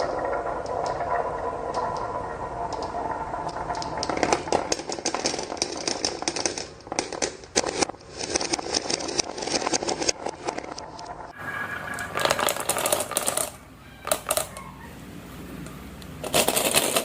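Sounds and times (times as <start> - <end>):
marbles clicking and clacking: 0.0 - 14.7, 15.6 - 17.0
marbles rolling on wooden track: 0.0 - 14.7, 16.2 - 17.0.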